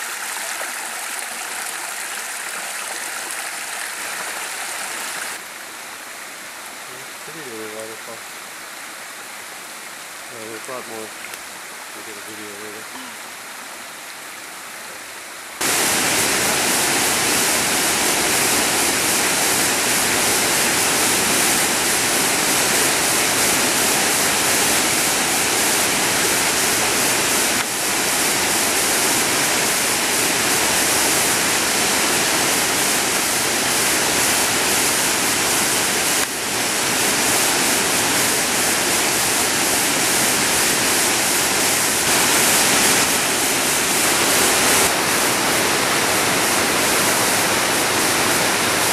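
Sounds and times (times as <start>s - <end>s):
waterfall roaring: 0.0s - 5.5s, 14.6s - 48.9s.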